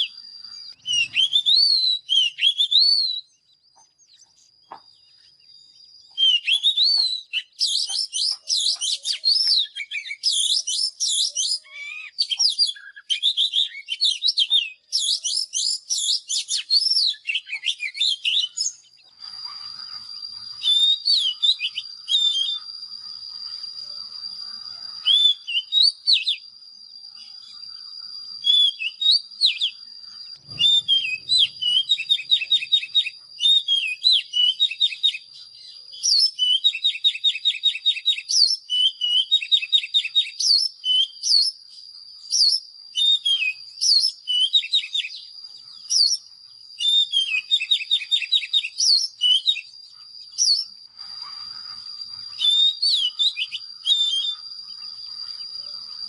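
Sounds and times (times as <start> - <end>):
bird singing whistled phrases: 0.0 - 56.0
faint steady high tone: 0.0 - 56.0.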